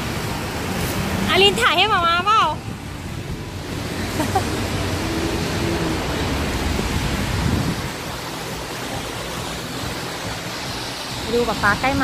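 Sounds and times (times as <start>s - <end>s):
wind buffeting microphone: 0.0s - 10.7s
rainy outdoor ambience: 0.0s - 12.0s.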